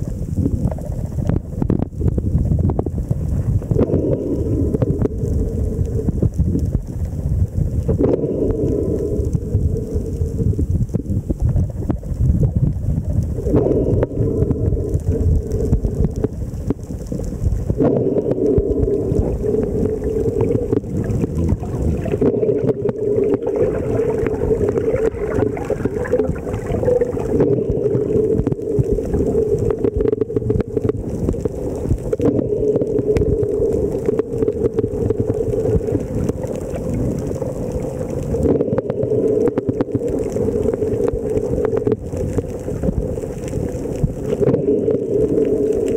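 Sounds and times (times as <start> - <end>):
constant hum: 0.0 - 45.9
faint clicks: 0.0 - 45.9
underwater rumble of water: 0.0 - 45.9.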